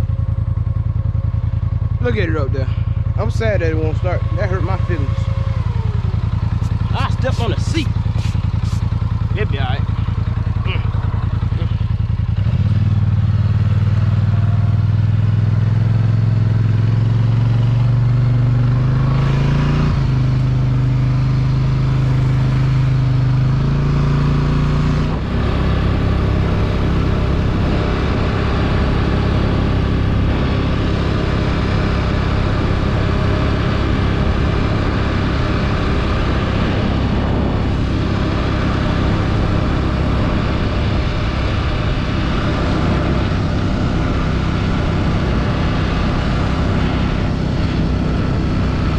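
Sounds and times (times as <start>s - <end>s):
atv engine running: 0.0s - 48.9s.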